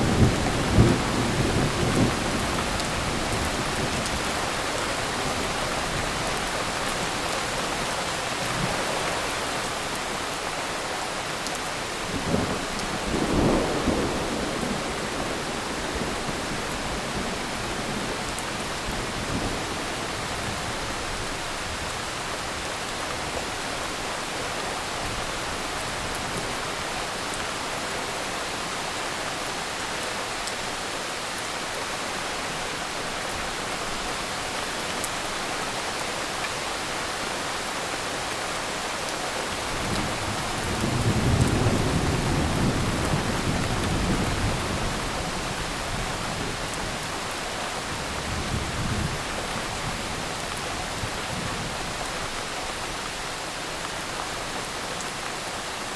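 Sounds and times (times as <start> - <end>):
heavy rain: 0.0 - 55.9.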